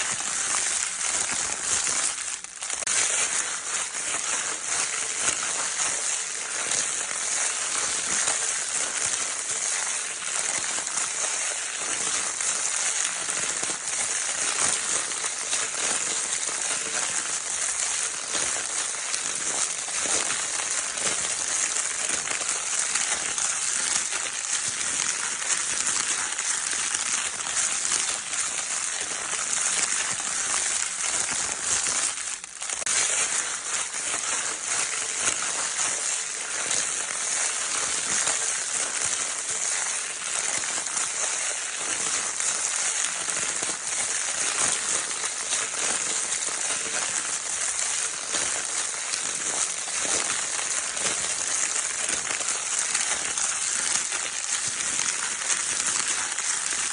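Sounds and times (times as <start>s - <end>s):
crinkle paper toy rustling: 0.0s - 56.9s.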